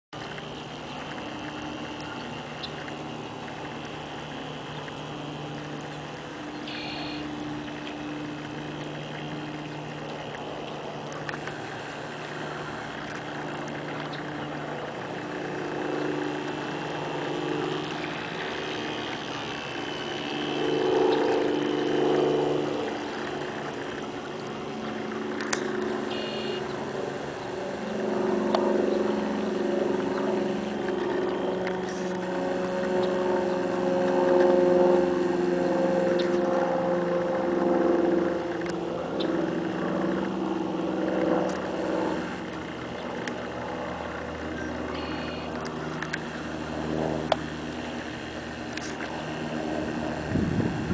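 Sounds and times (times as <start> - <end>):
model boat motor whining: 0.2 - 50.9.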